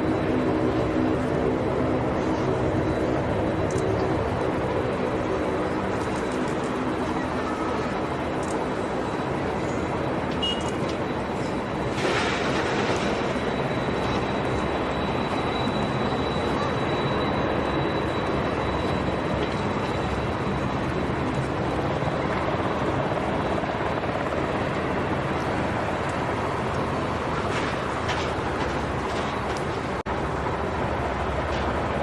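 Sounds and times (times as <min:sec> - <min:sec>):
aircraft engines running: 0:00.0 - 0:32.0.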